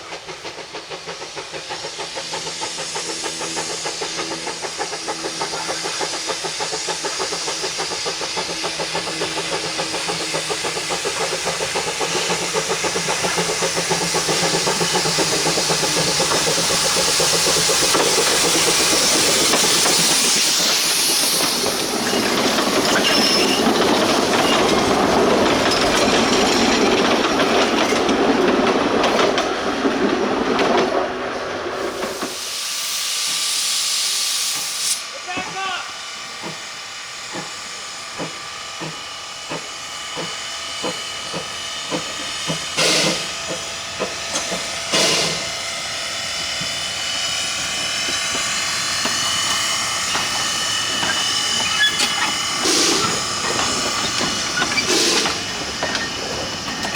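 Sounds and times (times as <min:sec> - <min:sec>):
steam hissing: 0:00.0 - 0:30.1, 0:31.2 - 0:56.9
steam locomotive running: 0:00.0 - 0:56.9.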